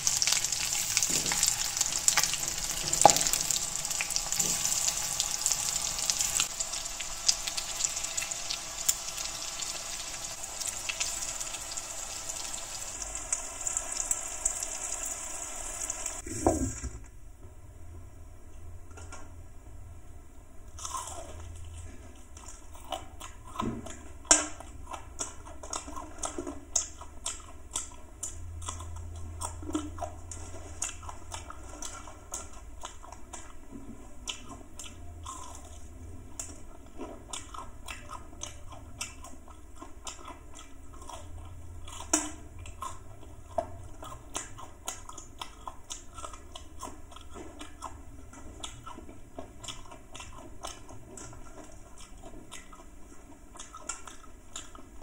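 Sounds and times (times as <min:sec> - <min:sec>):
person chewing food: 0:00.0 - 0:14.2, 0:20.7 - 0:55.0.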